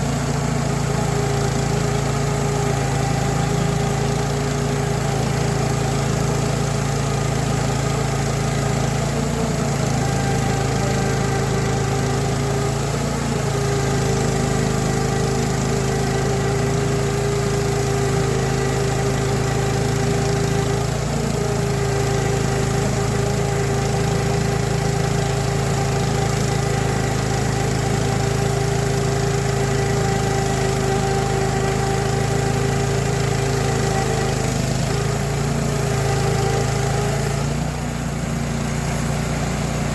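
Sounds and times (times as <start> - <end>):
saw mill engine running: 0.0 - 39.9.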